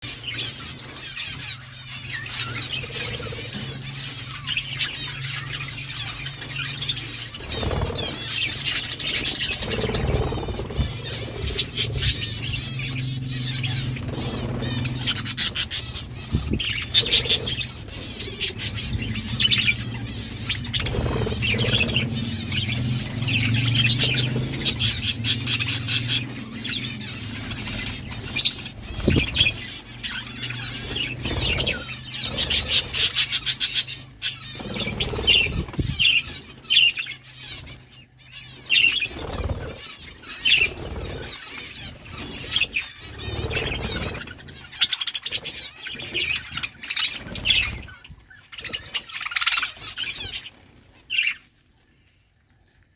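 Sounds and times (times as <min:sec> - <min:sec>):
budgerigars chirping: 0:00.0 - 0:51.5.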